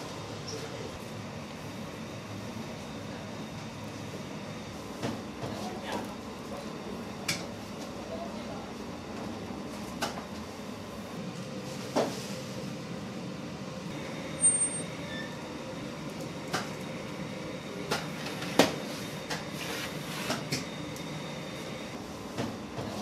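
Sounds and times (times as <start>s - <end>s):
rumble of bakery machinery: 0.0s - 23.0s.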